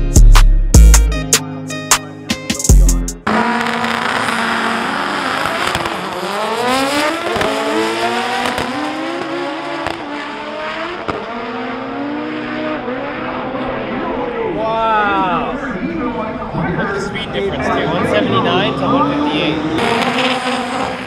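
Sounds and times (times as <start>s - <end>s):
drag racing cars at full throttle: 3.2s - 21.0s.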